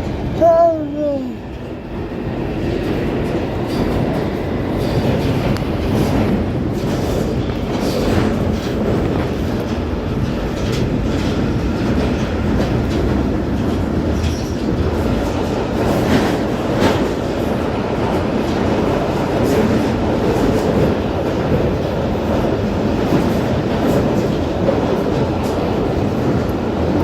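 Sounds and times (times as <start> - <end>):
train rumbling through tunnel: 0.0 - 27.0.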